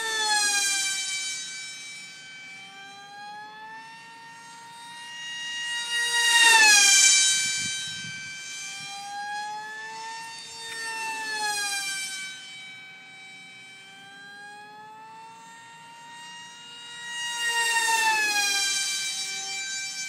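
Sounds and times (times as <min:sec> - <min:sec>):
electric motor and propeller whine: 0:00.0 - 0:20.0.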